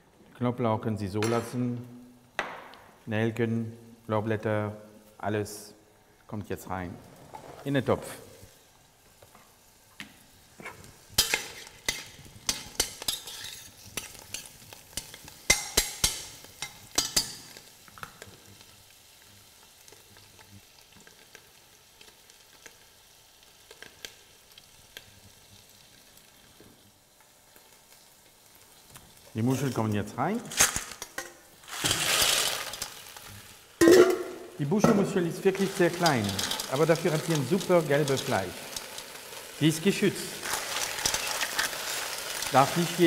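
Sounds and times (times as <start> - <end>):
vegetables sizzling in hot oil: 6.8 - 43.0.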